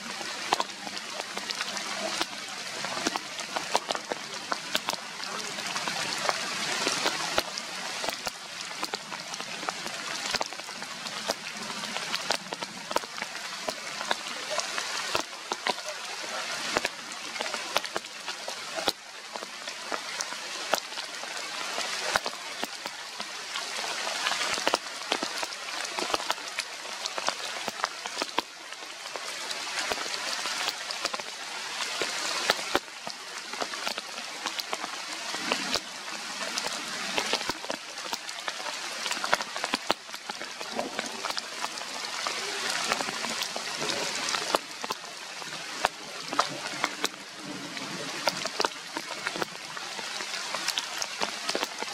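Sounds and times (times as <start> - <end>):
raindrops tapping close by: 0.0 - 51.9
steady rain falling: 0.0 - 51.9.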